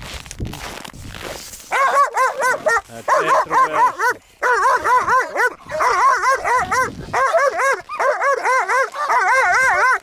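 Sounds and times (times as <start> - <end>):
dog whining and yelping: 1.7 - 10.0.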